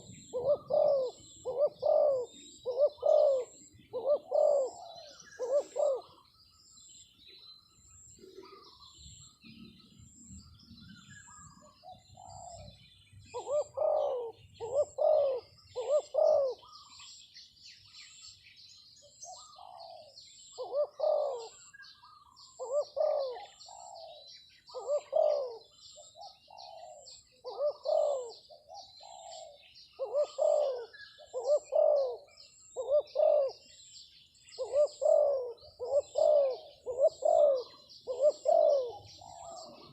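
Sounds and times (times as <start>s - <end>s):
dove cooing: 0.0s - 6.3s, 11.3s - 17.2s, 19.2s - 39.9s
small birds twittering: 0.0s - 39.9s.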